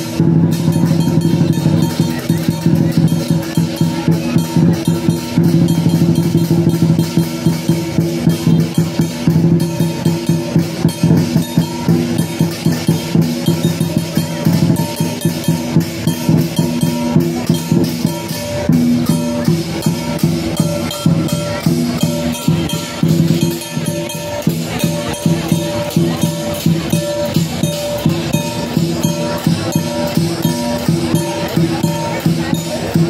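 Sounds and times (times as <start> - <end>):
clashing cymbals: 0.0 - 33.0
drum strikes: 0.0 - 33.0.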